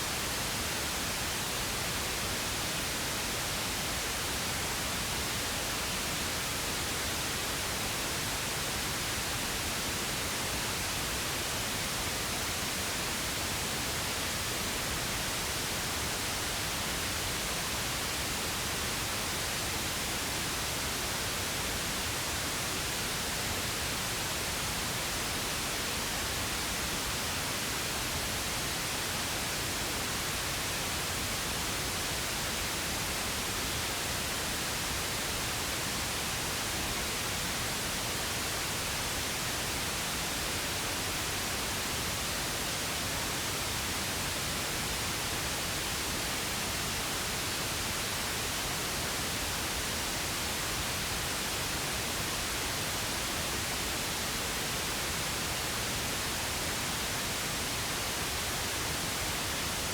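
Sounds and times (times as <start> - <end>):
steady pink noise: 0.0 - 59.9.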